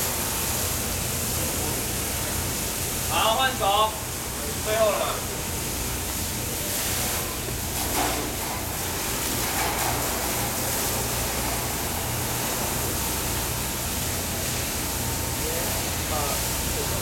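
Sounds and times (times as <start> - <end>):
fire hose spraying water: 0.0 - 17.0
pump motor humming: 0.0 - 17.0.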